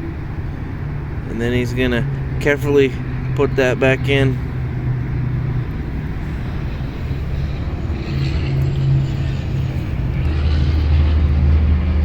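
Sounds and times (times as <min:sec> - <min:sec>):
deeper engine tone: 0:00.0 - 0:12.0
low engine drone: 0:00.0 - 0:12.0.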